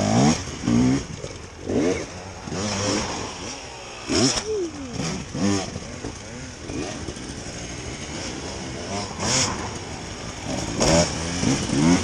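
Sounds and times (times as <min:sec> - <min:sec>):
dirt bike engine revving: 0:00.0 - 0:12.0
motorbikes running in background: 0:00.0 - 0:12.0.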